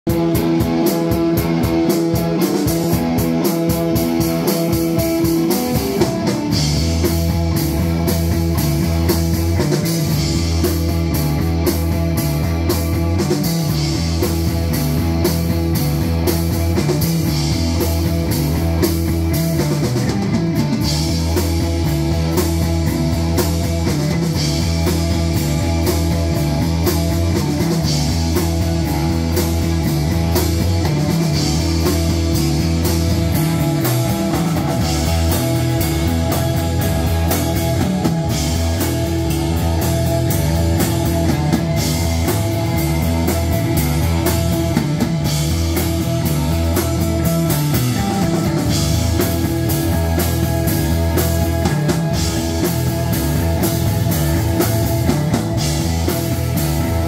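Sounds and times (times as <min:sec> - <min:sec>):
electric guitars: 0:00.0 - 0:57.0
keyboard: 0:00.0 - 0:57.0
deep bass notes: 0:00.1 - 0:57.0
drum kit with cymbal hits: 0:00.1 - 0:57.0.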